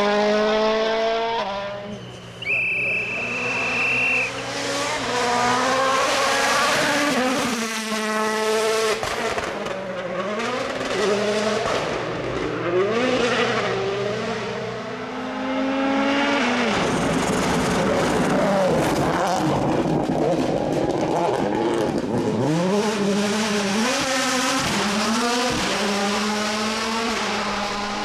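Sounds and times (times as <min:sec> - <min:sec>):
rally car engine revving past: 0:00.0 - 0:02.0, 0:03.1 - 0:28.0.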